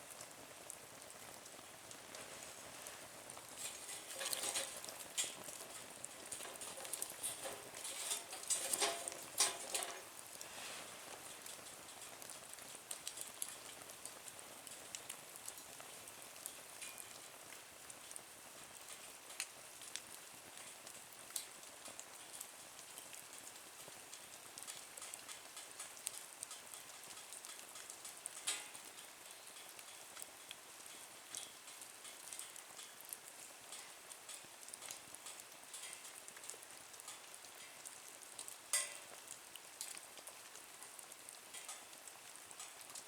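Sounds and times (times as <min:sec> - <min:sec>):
soft fire hiss: 0:00.0 - 0:43.0
wood fire crackling and popping: 0:00.0 - 0:43.0.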